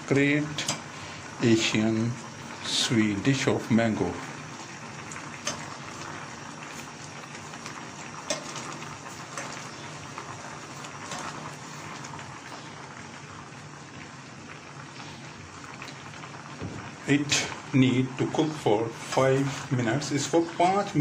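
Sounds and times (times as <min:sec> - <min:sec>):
syrup boiling and bubbling: 0:00.0 - 0:21.0.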